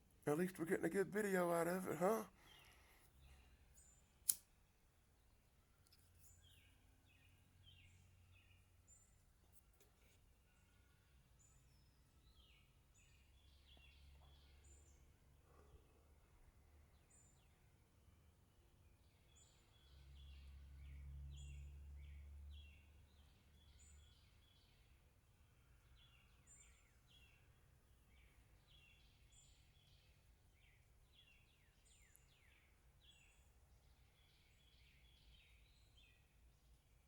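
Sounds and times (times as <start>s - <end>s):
faint bird chirping: 0.0s - 37.0s.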